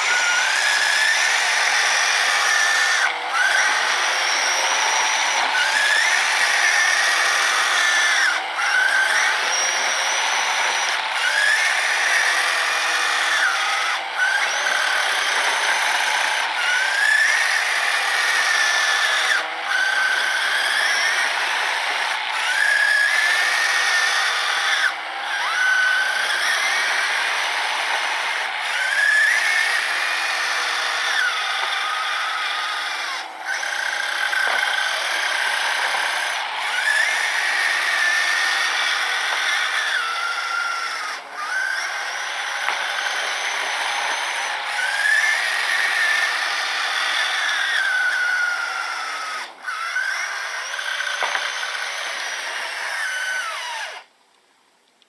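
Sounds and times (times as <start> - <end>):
small electric motors whining: 0.0 - 54.1.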